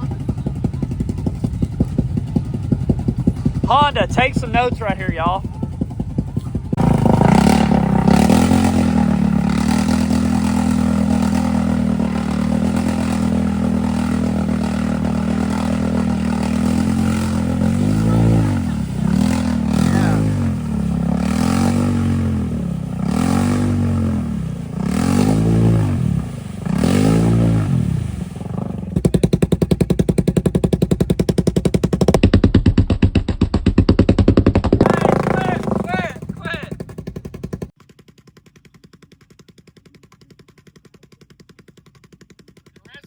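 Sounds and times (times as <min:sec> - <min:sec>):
atv engine revving: 0:00.0 - 0:43.0.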